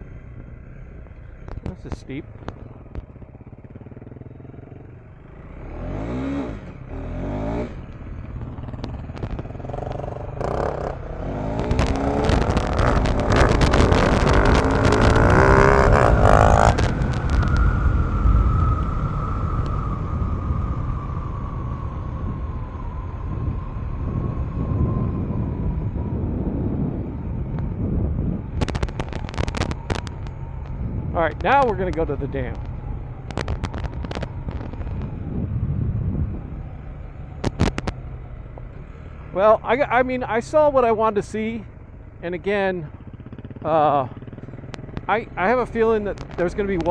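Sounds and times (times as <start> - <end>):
motorcycle engine revving: 0.0 - 19.4, 23.3 - 46.9.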